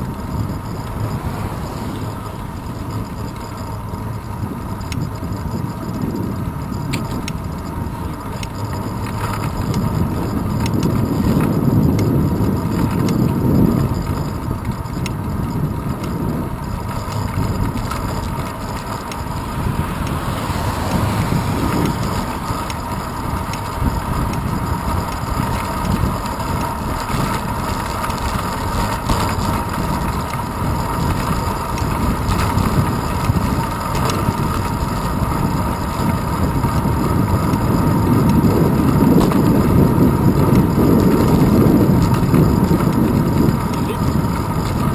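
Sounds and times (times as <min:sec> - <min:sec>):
bicycle road rumble: 0:00.0 - 0:44.9
wind buffeting: 0:00.0 - 0:44.9.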